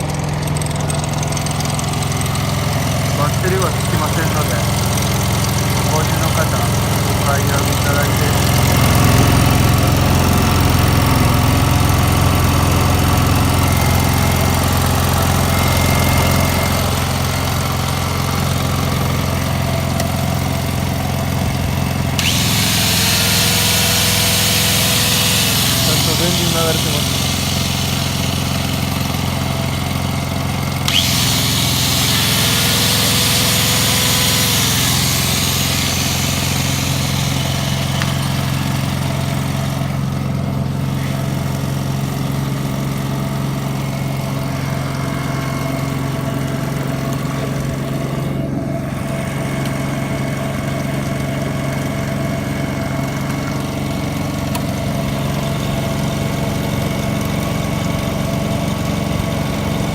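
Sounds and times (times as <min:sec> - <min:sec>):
engine welder generator running: 0:00.0 - 0:59.9.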